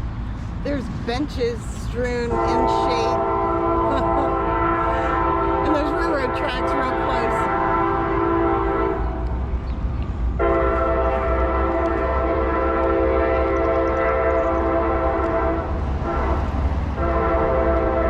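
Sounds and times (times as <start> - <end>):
low rumble: 0.0 - 17.2
locomotive air horn blasts: 2.3 - 9.3, 10.4 - 18.0.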